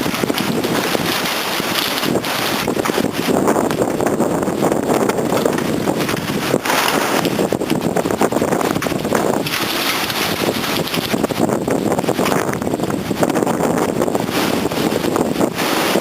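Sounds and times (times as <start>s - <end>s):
strong wind gusting: 0.0s - 16.0s.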